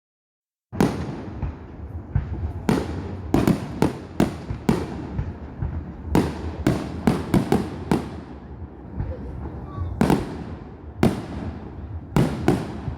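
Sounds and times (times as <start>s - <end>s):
fireworks bangs: 0.8s - 12.9s
low rumble: 0.8s - 12.9s.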